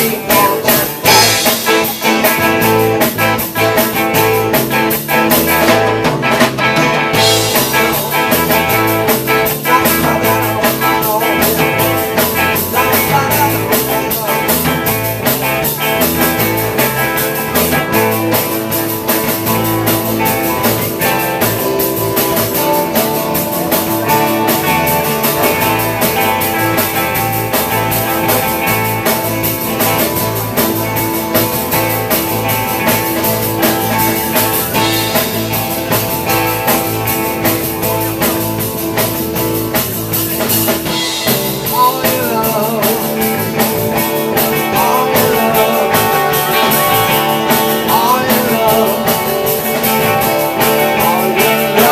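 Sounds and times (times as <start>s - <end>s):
drum kit beat: 0.0s - 51.9s
electric guitar: 0.0s - 51.9s
repeating bass line: 0.0s - 51.9s.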